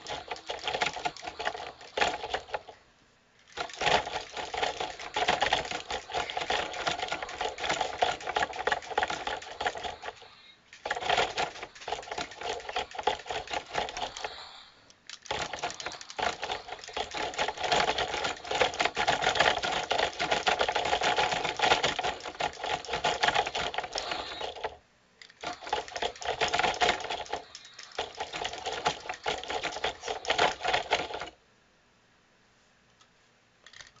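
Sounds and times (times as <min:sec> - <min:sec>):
toy motors and gears clattering: 0:00.0 - 0:02.8, 0:03.4 - 0:31.4, 0:33.6 - 0:34.0.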